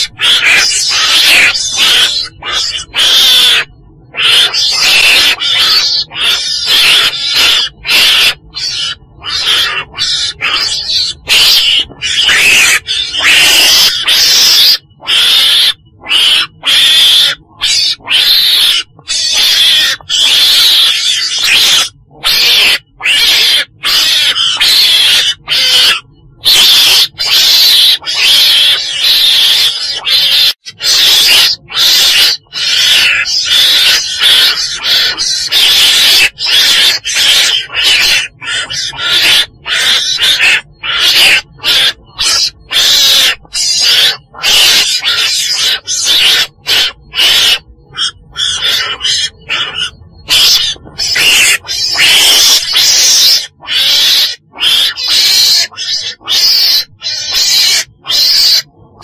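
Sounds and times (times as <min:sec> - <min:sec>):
weasel calling rapidly: 0:00.0 - 0:59.0.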